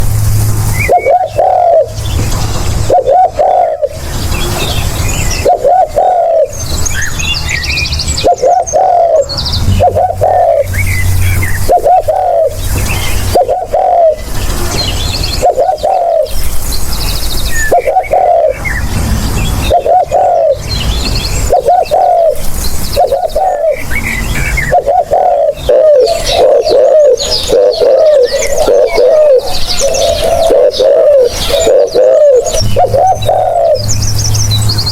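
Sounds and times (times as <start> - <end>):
small birds chirping: 0.0 - 34.9
dove cooing: 0.7 - 6.6, 8.2 - 16.5, 17.5 - 18.9, 19.6 - 34.3.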